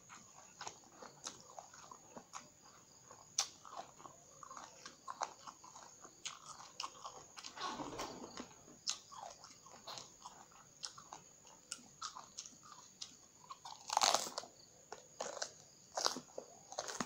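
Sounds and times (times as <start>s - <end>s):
crunching and chewing eggplant: 0.0s - 17.0s.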